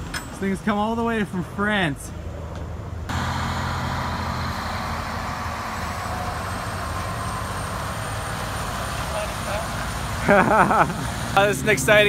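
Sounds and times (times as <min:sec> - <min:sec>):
truck diesel engine hum: 0:00.0 - 0:12.0.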